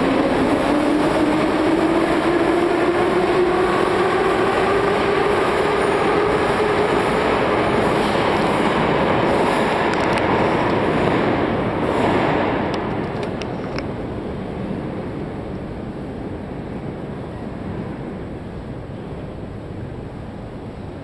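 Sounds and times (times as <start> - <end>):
metro train rumble: 0.0 - 21.0.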